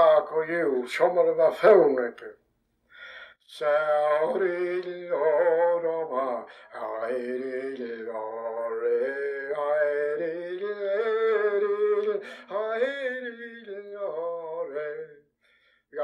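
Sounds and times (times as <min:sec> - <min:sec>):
man singing unaccompanied: 0:00.0 - 0:02.4, 0:03.4 - 0:15.3.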